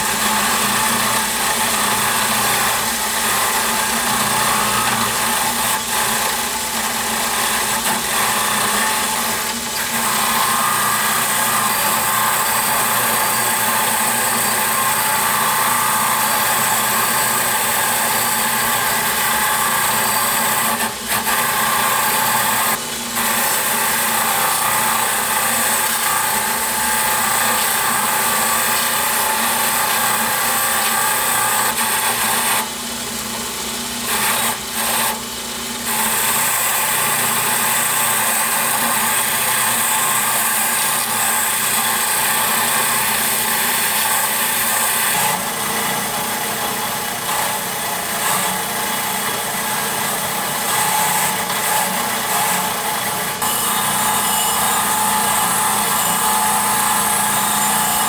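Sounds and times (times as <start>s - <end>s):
electric power tool on steel: 0.0s - 58.0s.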